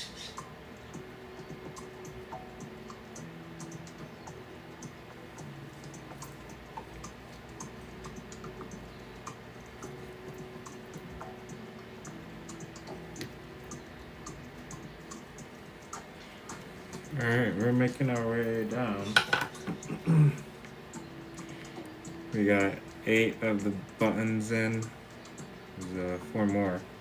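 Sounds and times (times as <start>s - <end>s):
faint background music: 0.0s - 27.0s
light clicks and ticks: 0.2s - 27.0s.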